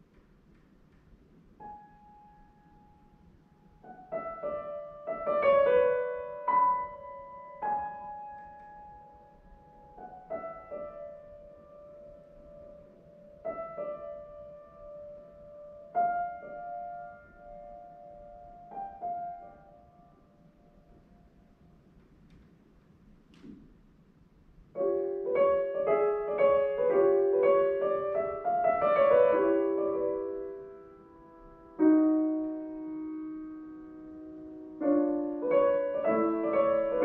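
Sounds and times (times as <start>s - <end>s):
slow solo piano: 0.0s - 37.0s.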